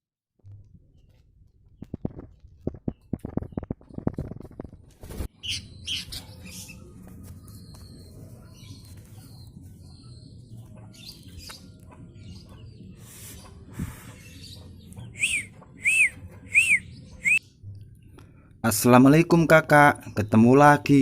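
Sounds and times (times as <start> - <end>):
bird chirping: 0.4 - 18.5.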